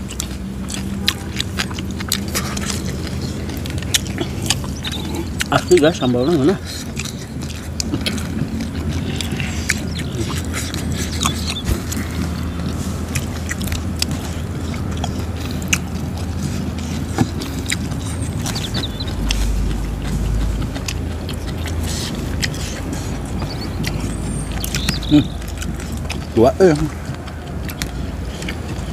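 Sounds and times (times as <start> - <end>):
chewing raw vegetables: 0.0 - 28.9
steady low rumble: 0.0 - 28.9.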